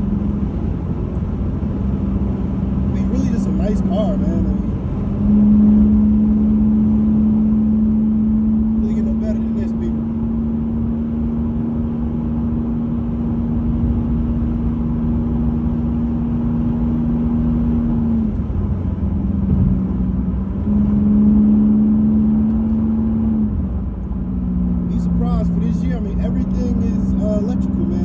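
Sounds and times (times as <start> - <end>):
car engine droning: 0.0 - 28.0
road noise: 0.0 - 28.0.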